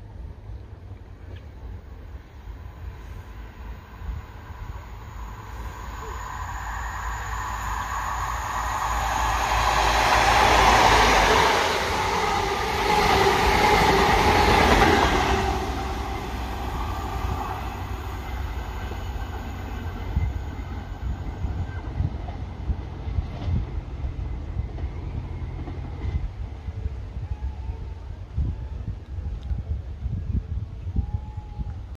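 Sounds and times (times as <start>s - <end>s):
train rushing past: 0.5s - 30.2s.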